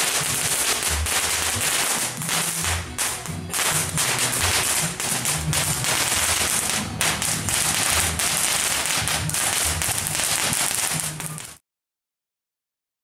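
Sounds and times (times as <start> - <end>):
firecrackers crackling: 0.0 - 11.6.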